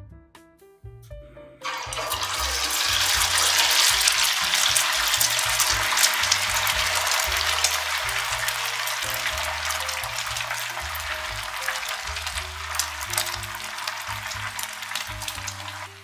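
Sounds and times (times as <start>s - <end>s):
egg sizzling in hot oil: 1.6s - 16.0s.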